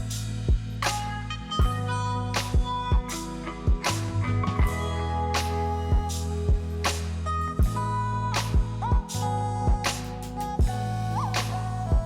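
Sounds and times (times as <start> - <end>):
guitar and bass: 0.0 - 12.0
steady drum beat: 0.0 - 12.0.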